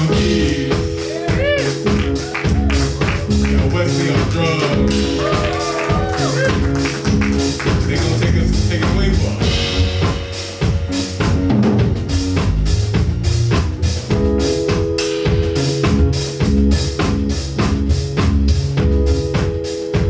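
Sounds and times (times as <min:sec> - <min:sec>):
bass notes: 0:00.0 - 0:20.0
drum kit beat: 0:00.0 - 0:20.0
keyboard chords: 0:00.0 - 0:20.0.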